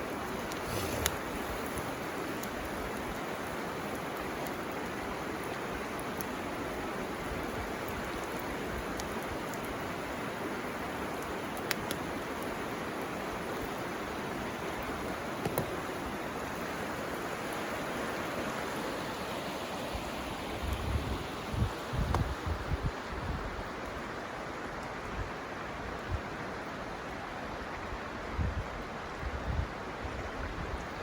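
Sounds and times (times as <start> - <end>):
bamboo fire crackles: 0.0 - 25.1
river flowing: 0.0 - 29.2.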